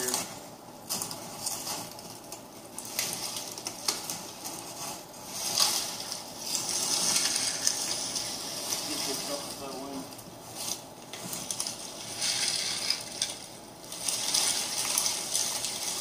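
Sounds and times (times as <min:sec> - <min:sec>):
branches rustling and snapping: 0:00.0 - 0:16.0.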